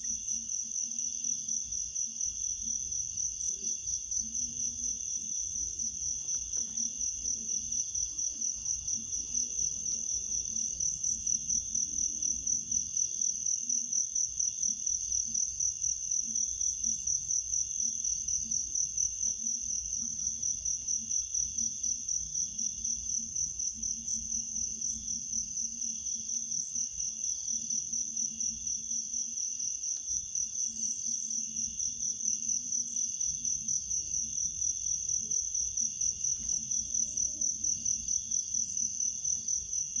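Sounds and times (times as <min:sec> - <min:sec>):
faint lower insect trill: 0:00.0 - 0:40.0.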